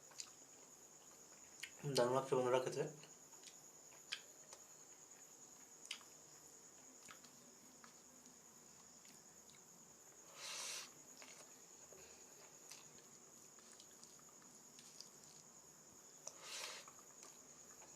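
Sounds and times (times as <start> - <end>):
high-pitched cricket trill: 0.0 - 17.9.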